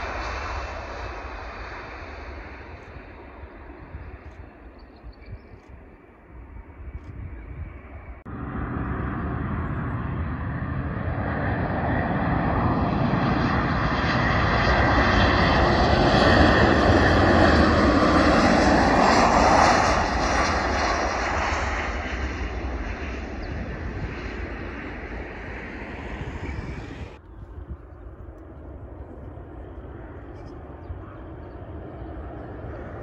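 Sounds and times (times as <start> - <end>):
jet airliner roar passing overhead: 0.0 - 33.0.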